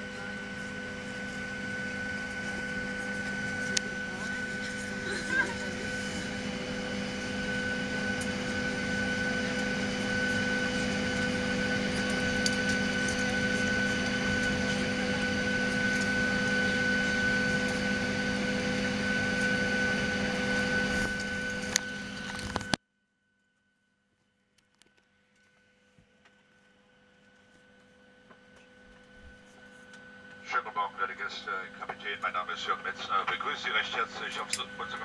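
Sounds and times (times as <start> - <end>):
ventilation whine: 0.0 - 22.8, 24.2 - 35.0.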